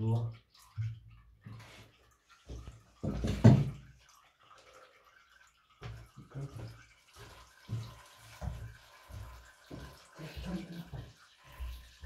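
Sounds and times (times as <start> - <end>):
water spluttering from a tap: 0.0 - 12.0.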